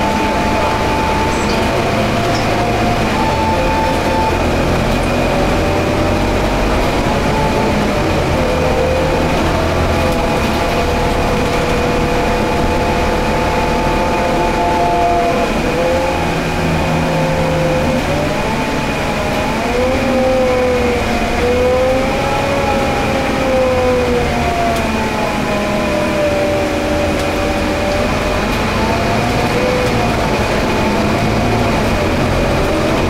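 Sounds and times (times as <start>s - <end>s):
bus drivetrain drone: 0.0s - 33.0s
constant high whine: 0.0s - 33.0s
gearbox whining tones: 0.0s - 33.0s.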